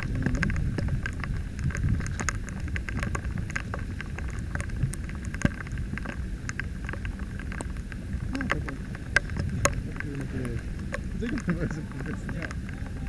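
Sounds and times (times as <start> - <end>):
heavy rain on water and boat: 0.0 - 13.0
raindrops ticking near microphone: 0.0 - 13.0.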